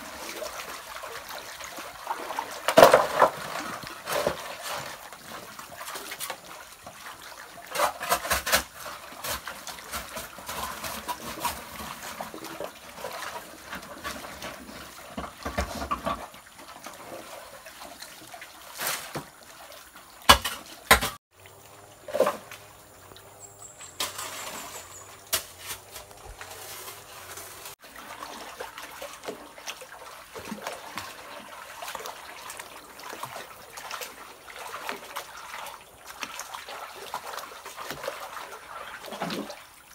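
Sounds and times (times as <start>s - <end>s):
muddy water sloshing: 0.0s - 39.9s.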